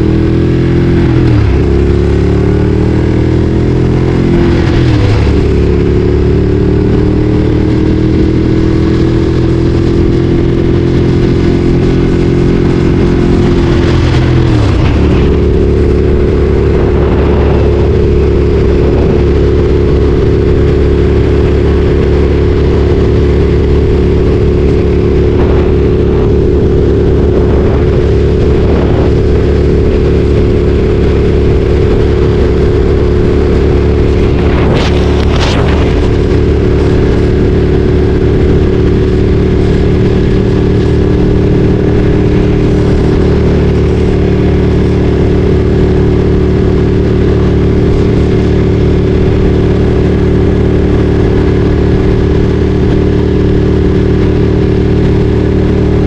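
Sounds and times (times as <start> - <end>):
motorcycle engine running loud: 0.0 - 56.0.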